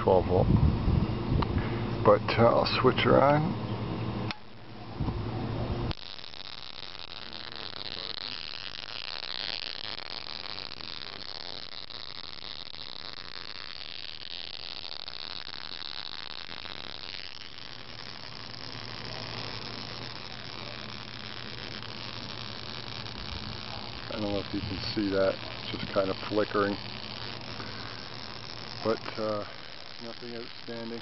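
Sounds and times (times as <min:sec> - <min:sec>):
spark gap hissing buzz: 0:00.8 - 0:31.0
faint crackle: 0:04.3 - 0:31.0.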